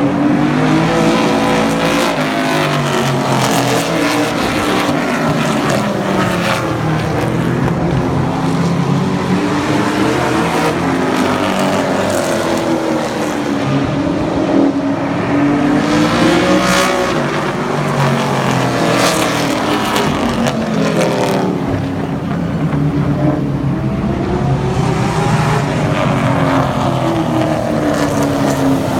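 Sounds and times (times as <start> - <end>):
racing truck engines passing: 0.0 - 28.9.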